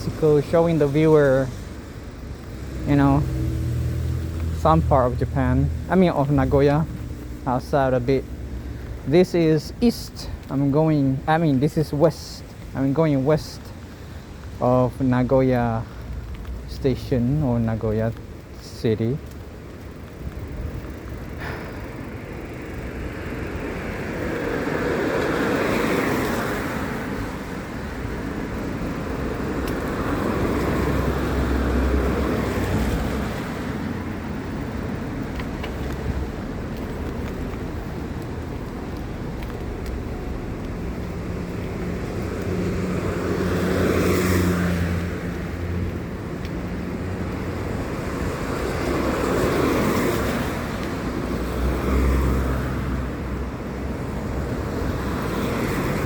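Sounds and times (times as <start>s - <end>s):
road noise: 0.0s - 56.0s
vehicles passing: 0.0s - 56.0s.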